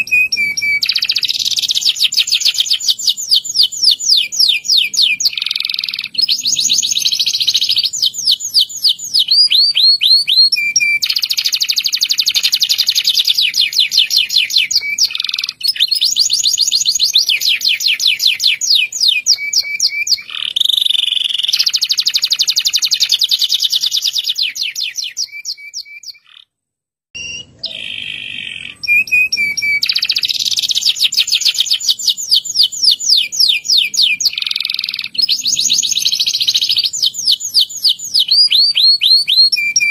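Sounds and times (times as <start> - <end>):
canary singing trills: 0.0 - 26.5, 27.2 - 39.9.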